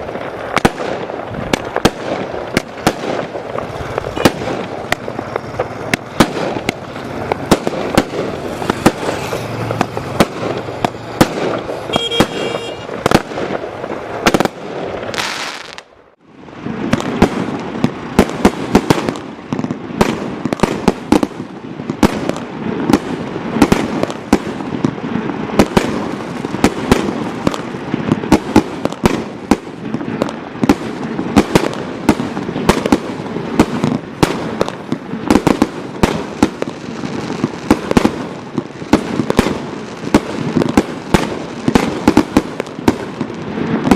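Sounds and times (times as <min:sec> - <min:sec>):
firework rapid cracks and bangs: 0:00.0 - 0:43.9.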